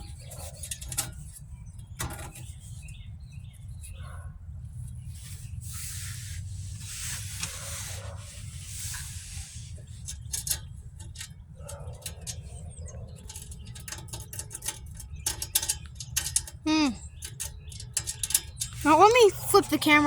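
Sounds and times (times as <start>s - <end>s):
rubbing and scraping of small parts: 0.0s - 3.0s, 5.1s - 20.0s.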